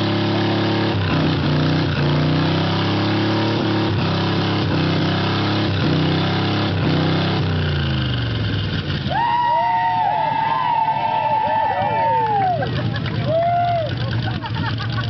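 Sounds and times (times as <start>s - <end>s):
car engine revving high: 0.0s - 12.6s.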